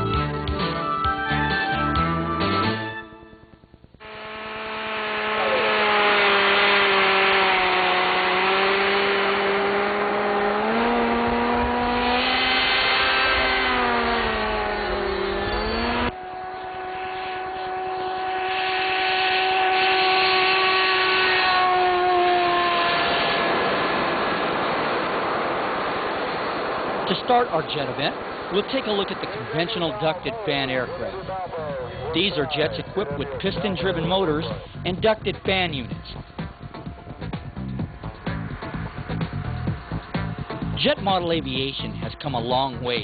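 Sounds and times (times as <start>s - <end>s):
model jet engine whining: 3.0s - 43.0s.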